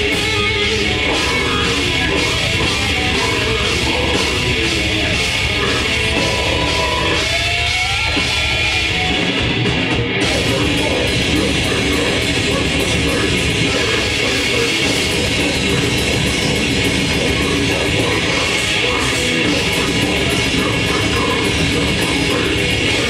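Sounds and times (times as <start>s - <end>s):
grindcore band playing live: 0.0s - 23.0s.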